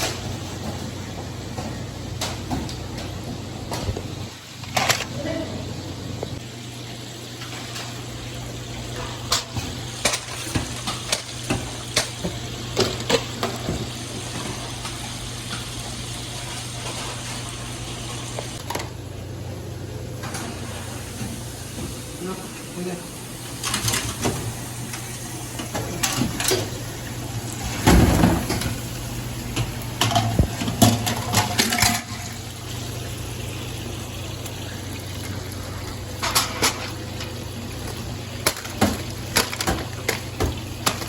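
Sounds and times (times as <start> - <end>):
chicken frying in hot oil: 0.0 - 18.7, 20.2 - 41.0.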